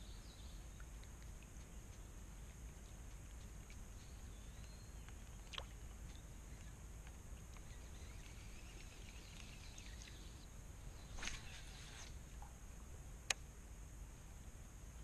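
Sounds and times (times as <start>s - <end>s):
faint bird chirps: 0.0s - 12.2s.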